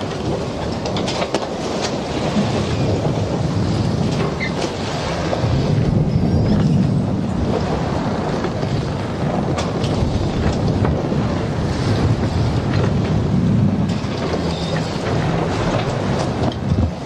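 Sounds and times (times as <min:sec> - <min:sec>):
wind and sea rushing: 0:00.0 - 0:17.0.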